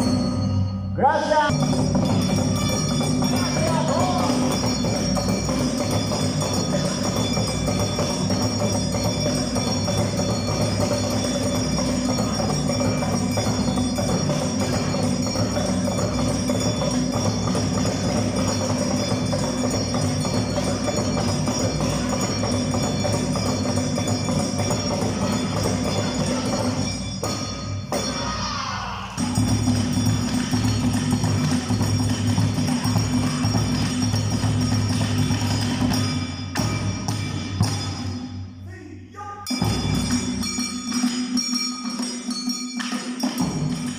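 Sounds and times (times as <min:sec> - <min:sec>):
drums: 0:00.0 - 0:38.5, 0:39.4 - 0:43.9
percussion ensemble music: 0:00.0 - 0:43.9.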